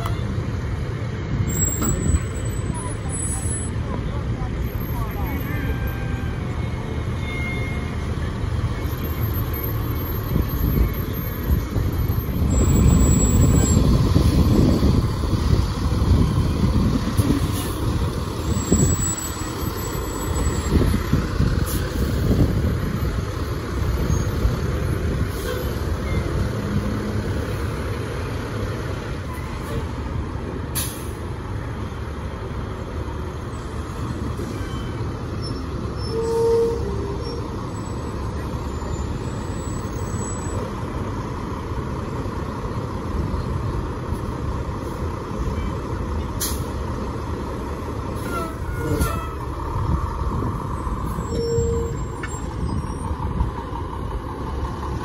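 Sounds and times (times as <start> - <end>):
trucks driving past: 0.0 - 55.0.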